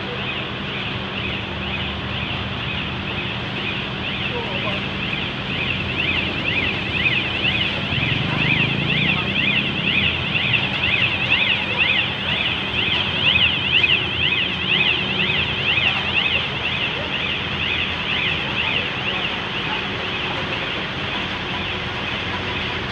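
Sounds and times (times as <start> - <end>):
electronic warning alarm sweeping: 0.1 - 22.9.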